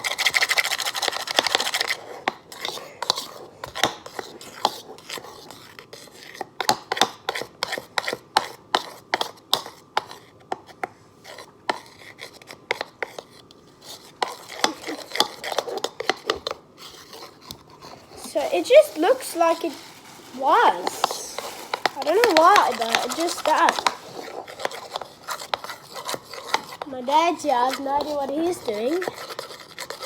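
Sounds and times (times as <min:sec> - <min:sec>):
utensil stirring slime in a bowl: 0:00.0 - 0:30.0.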